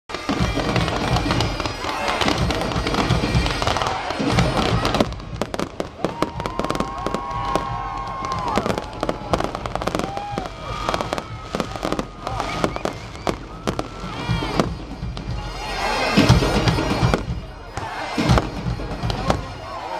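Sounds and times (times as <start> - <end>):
bagpipe music: 0.1 - 19.9
fireworks bursting and crackling: 0.1 - 19.9
fireworks whistling: 0.1 - 19.9.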